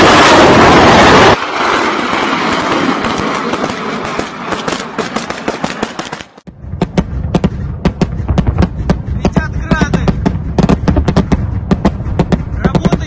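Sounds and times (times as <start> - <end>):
rockets launching roar: 0.0 - 13.0
sharp cracks: 1.1 - 13.0.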